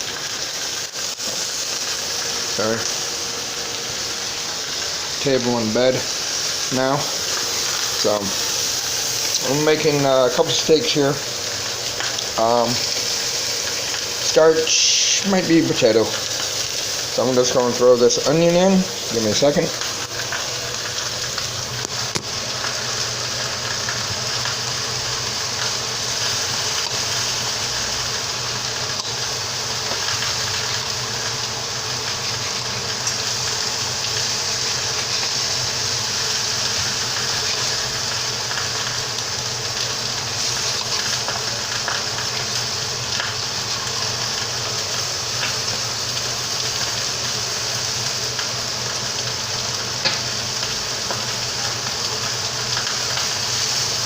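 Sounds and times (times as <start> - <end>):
meat and onion sizzling in a pan: 0.0 - 54.0
oil crackling: 0.0 - 54.0.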